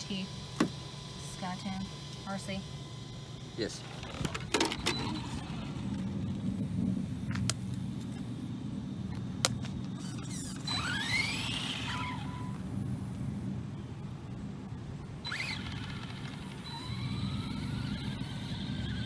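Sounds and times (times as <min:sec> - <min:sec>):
steady low rumble: 0:00.0 - 0:10.0, 0:12.1 - 0:18.9
electric motor whining: 0:00.0 - 0:13.5, 0:15.2 - 0:19.0.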